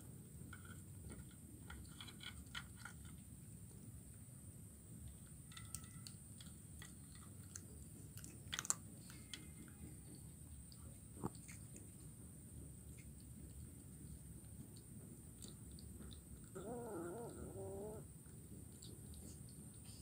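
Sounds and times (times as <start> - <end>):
kitten crunching bones: 0.3 - 4.2, 4.9 - 20.0.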